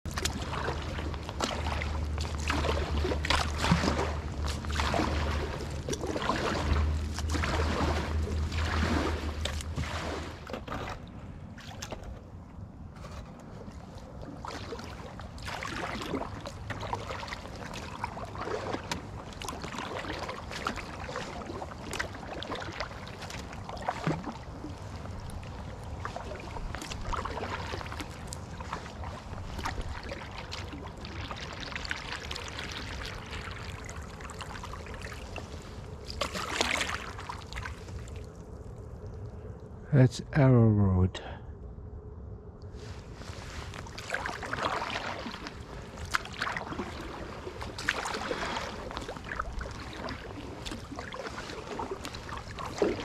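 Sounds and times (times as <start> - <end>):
water dripping off paddle: 0.1 - 11.0, 14.4 - 38.4, 43.7 - 53.0
paddle splashing in water: 0.1 - 38.5, 42.8 - 53.0.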